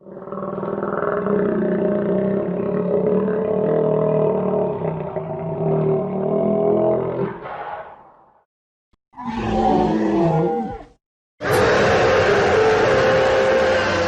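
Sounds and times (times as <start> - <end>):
dinosaur roar: 0.0 - 8.0, 9.2 - 14.0.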